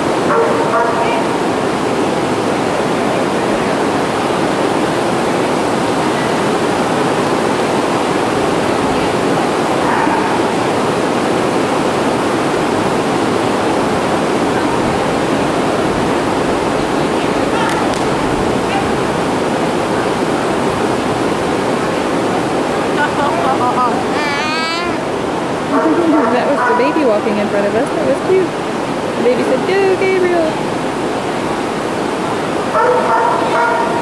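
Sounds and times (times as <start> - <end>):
rain on a roof: 0.0 - 34.0.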